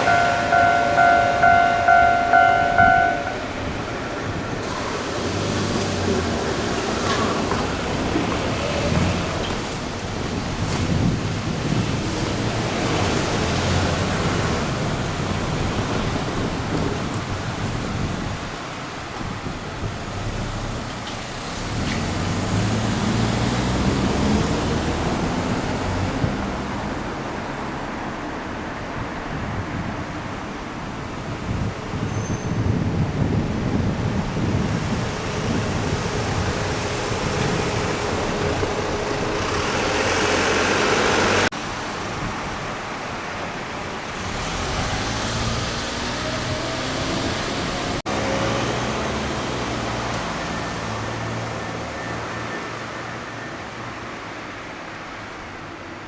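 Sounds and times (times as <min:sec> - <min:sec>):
vehicles passing: 0:00.0 - 0:32.0, 0:32.6 - 0:56.0
low traffic hum: 0:00.0 - 0:56.0.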